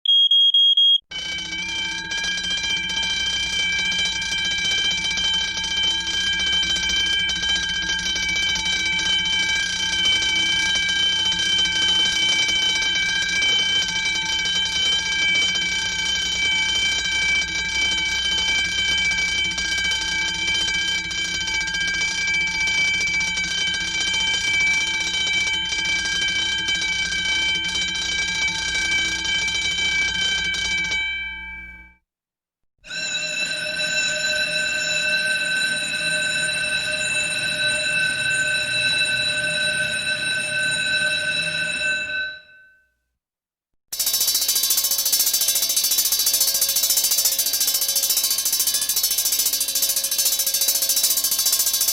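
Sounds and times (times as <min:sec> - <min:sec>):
fire alarm bell ringing: 0:00.0 - 0:32.0, 0:32.8 - 0:43.0, 0:43.9 - 0:51.9.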